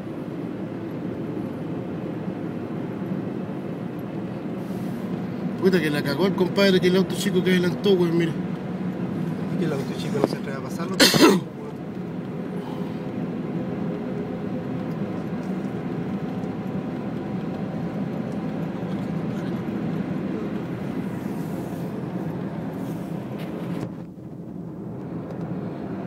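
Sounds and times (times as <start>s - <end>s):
car driving at highway speed: 0.0s - 26.0s.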